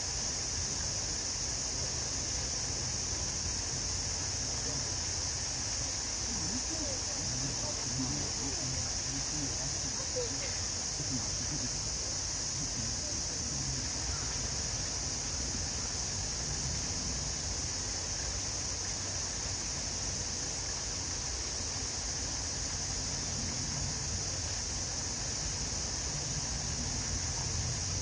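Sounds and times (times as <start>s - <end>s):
cicada chorus buzzing: 0.0s - 28.0s.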